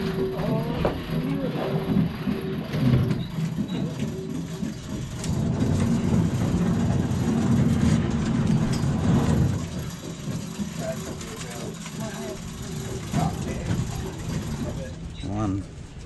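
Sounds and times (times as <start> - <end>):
boat diesel engine running: 0.0 - 16.0.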